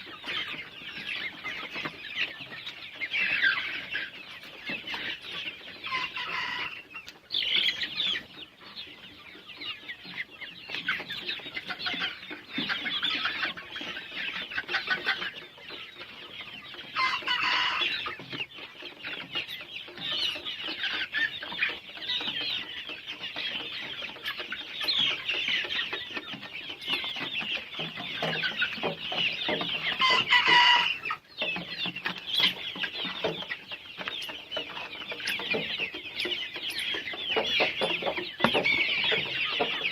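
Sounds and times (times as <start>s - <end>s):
loud chicken calls: 0.0s - 8.8s, 9.4s - 22.7s, 23.8s - 39.9s
chickens clucking: 0.0s - 39.9s.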